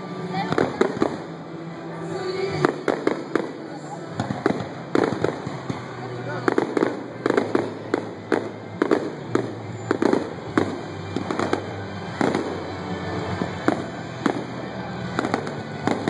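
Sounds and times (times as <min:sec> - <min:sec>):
fireworks booming: 0:02.6 - 0:16.0.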